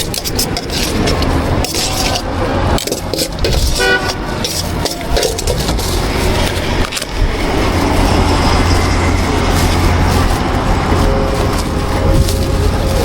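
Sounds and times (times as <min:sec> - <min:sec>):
large vehicle engine rumble: 0:00.0 - 0:13.0.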